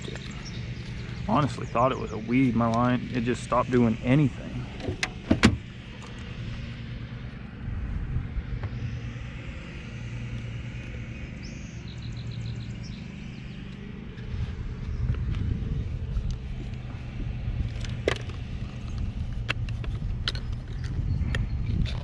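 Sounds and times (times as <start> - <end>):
boat motor humming: 0.0 - 22.0
wind rumbling on microphone: 0.0 - 22.0.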